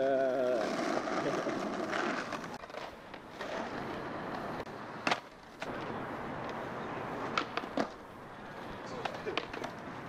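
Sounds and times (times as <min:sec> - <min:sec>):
skateboard wheels rolling on asphalt: 0:00.0 - 0:10.0
skateboard clack: 0:00.4 - 0:06.6, 0:07.2 - 0:10.0.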